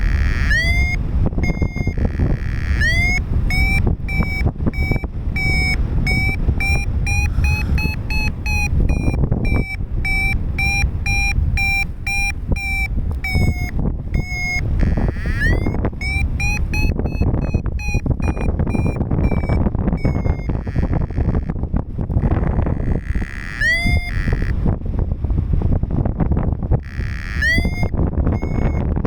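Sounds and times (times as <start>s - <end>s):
short electronic beeps: 0.0s - 21.6s, 22.2s - 24.6s, 26.8s - 28.9s
wind rush on microphone: 0.0s - 29.0s.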